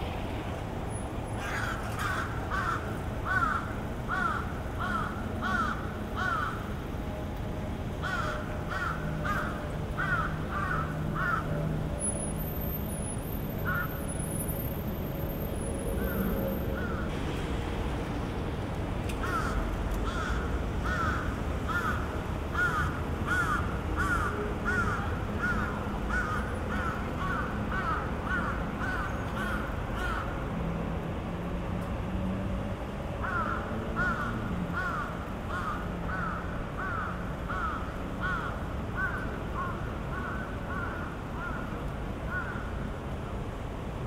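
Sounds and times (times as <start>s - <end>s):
street traffic: 0.0s - 44.0s.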